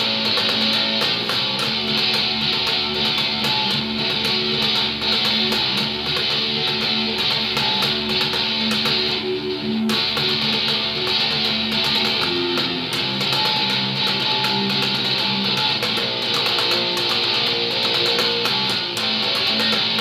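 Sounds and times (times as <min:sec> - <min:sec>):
electric bass guitar riff: 0:00.0 - 0:20.0
other instruments playing: 0:00.0 - 0:20.0.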